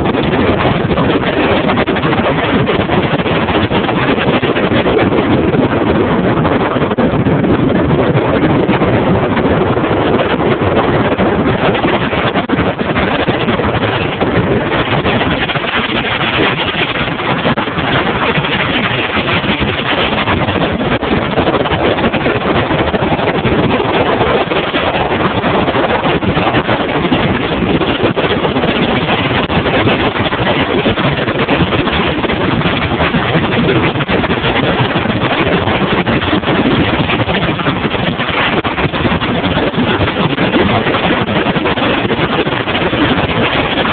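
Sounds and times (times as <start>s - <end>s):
hull on water: 0.0s - 43.9s
wind rushing over microphone: 0.0s - 43.9s.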